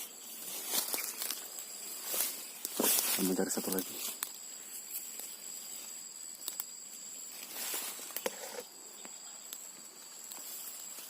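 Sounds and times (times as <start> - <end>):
insects droning: 0.0 - 11.0
snaps and rustles of undergrowth: 0.0 - 11.0.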